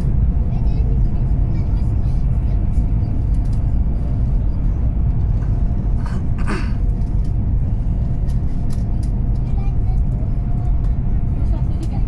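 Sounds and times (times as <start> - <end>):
train rumble from inside carriage: 0.0 - 12.0.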